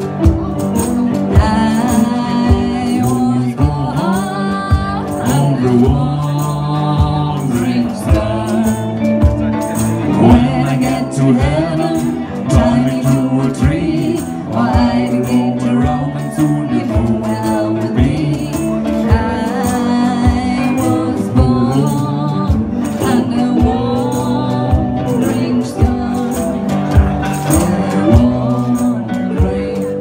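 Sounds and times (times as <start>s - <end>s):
cigar box guitars: 0.0s - 30.0s
drum kit beat: 0.0s - 30.0s
voices singing: 0.0s - 30.0s.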